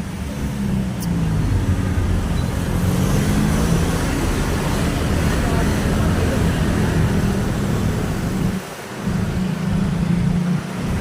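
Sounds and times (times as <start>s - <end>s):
tyre and road noise: 0.0s - 11.0s
vehicle engines passing: 0.0s - 11.0s.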